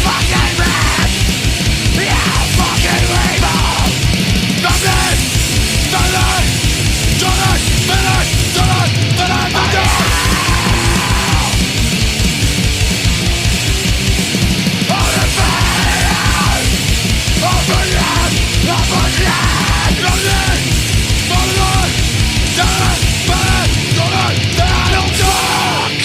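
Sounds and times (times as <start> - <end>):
bending guitar melody: 0.0 - 26.0
distorted guitars and bass: 0.0 - 26.0
fast drumming: 0.0 - 26.0.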